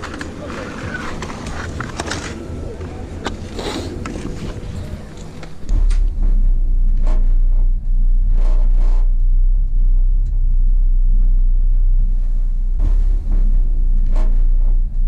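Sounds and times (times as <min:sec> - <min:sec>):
gondola cabin rumble: 0:00.0 - 0:15.0.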